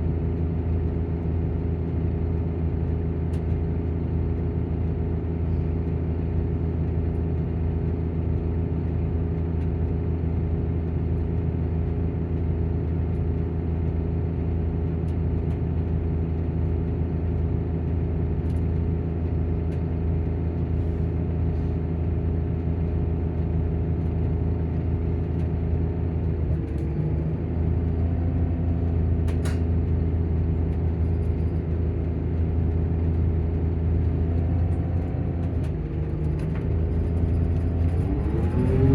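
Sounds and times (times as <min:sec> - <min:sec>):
bus engine idling: 0:00.0 - 0:38.0
engine cooling fan running: 0:00.0 - 0:38.9.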